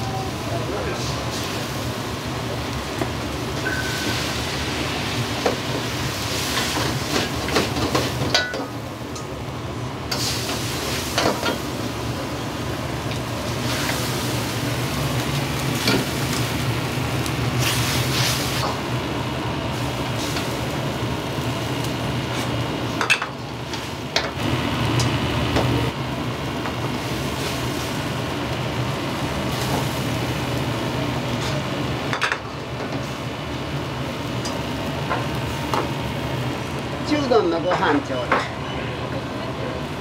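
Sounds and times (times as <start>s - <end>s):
food sizzling: 0.0s - 40.0s.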